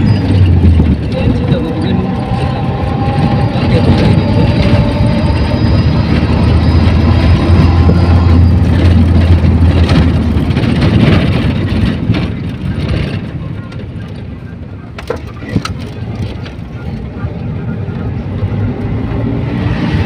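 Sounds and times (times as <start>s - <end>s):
engine drone: 0.0s - 20.0s
road noise: 0.0s - 20.0s
wind noise: 0.0s - 20.0s.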